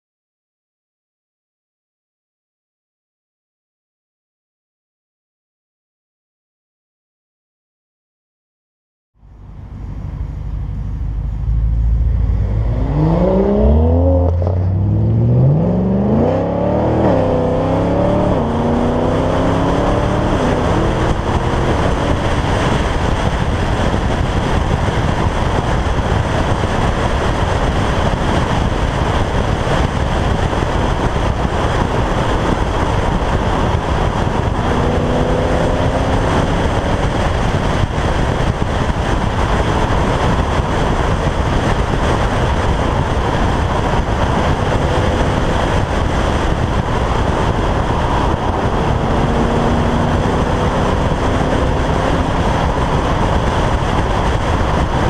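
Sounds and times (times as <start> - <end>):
car engine accelerating: 9.2 - 55.0
road noise: 9.2 - 55.0
rushing wind: 9.2 - 55.0.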